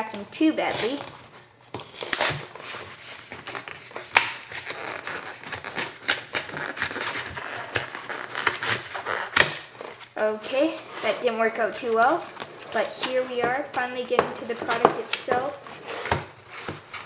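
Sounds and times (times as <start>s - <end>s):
cardboard and paper tearing: 0.0s - 17.0s.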